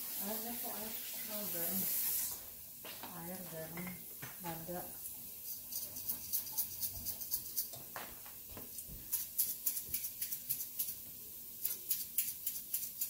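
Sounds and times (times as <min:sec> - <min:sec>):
oil sizzling in a pot: 0:00.0 - 0:13.0.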